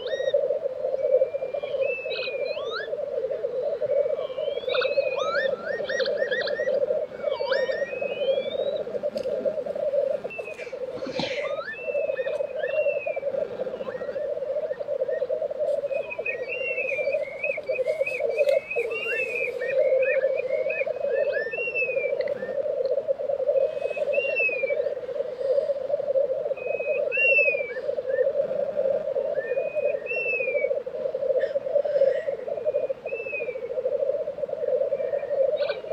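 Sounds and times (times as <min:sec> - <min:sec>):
grouse bubbling song: 0:00.0 - 0:35.9.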